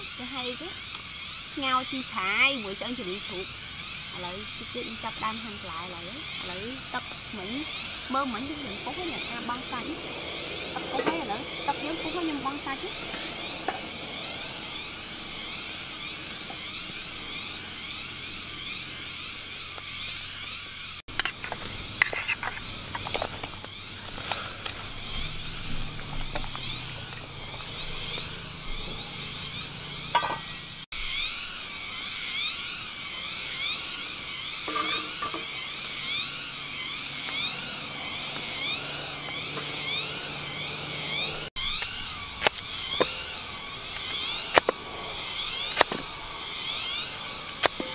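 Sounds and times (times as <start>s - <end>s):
cicadas singing: 0.0s - 47.9s.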